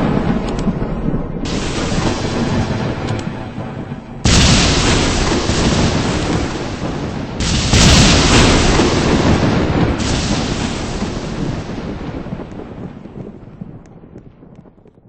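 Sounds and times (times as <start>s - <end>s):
thunder cracks and rumble: 0.0s - 15.0s.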